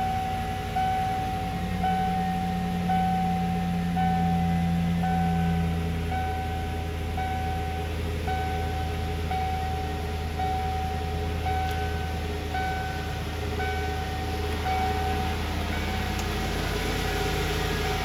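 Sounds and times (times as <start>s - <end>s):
high tone: 0.0s - 16.2s
truck engine fast idle: 0.0s - 18.0s.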